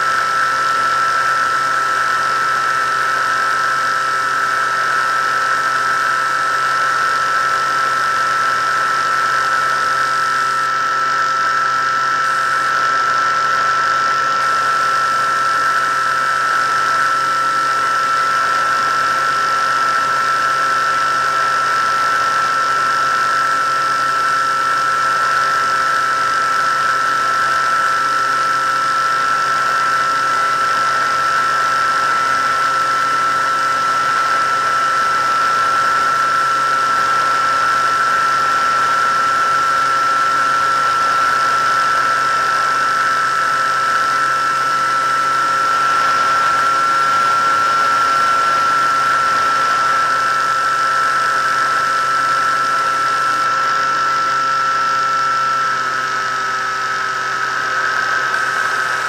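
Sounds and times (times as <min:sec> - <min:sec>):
electric motor and propeller whine: 0:00.0 - 0:59.0.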